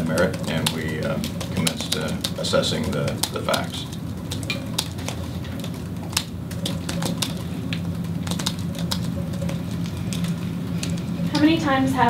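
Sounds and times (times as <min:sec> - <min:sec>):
sharp clicks and taps: 0:00.0 - 0:11.5
low room hum: 0:00.0 - 0:12.0.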